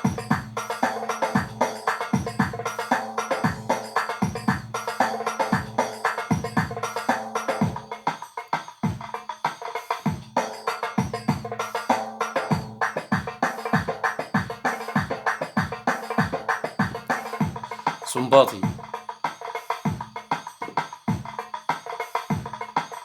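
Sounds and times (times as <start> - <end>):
keyboard drum rhythm: 0.0 - 23.0.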